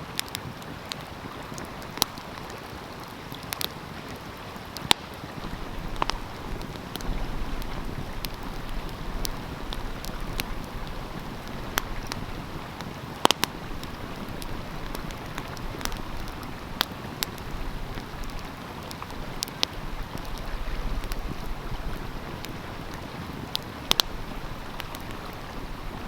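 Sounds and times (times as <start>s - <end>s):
stream rushing: 0.0s - 26.0s
wood fire crackling and popping: 0.0s - 26.0s.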